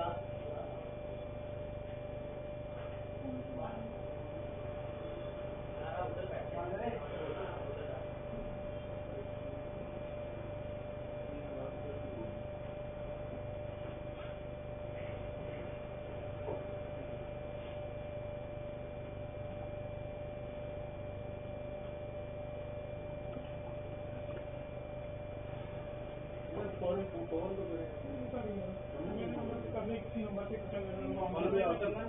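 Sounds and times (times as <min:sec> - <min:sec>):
electrical hum and hiss: 0:00.0 - 0:32.0.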